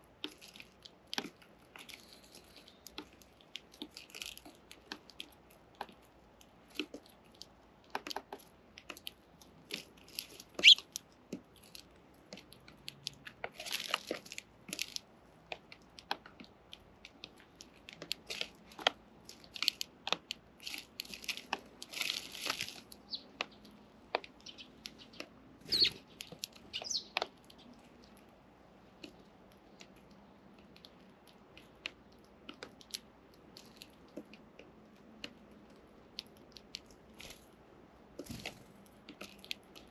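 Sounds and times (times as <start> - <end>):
birds pecking and cracking seed: 0.0 - 39.9.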